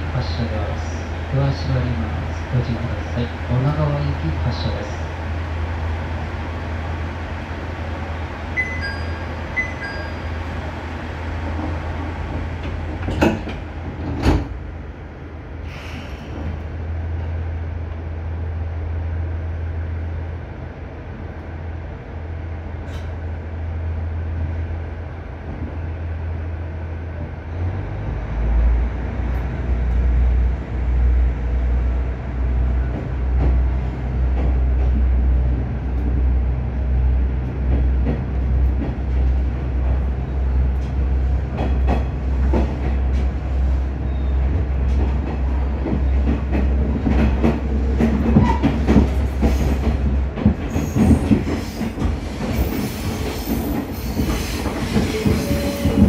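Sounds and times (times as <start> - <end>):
diesel railcar engine droning: 0.0 - 56.0.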